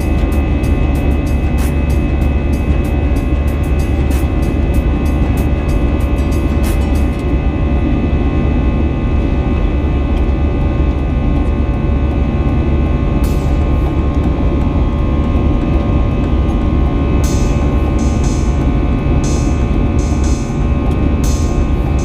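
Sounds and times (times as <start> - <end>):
jet engine drone in cabin: 0.0 - 22.0.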